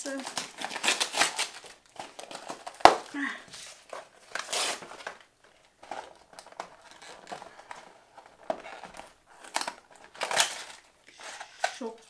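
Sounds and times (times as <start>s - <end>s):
gift wrapping paper crinkling: 0.0s - 12.0s.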